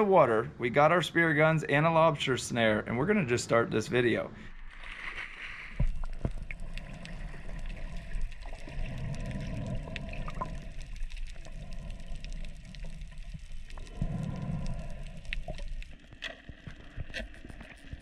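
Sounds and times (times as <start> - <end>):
muffled underwater water rush: 0.0 - 18.0.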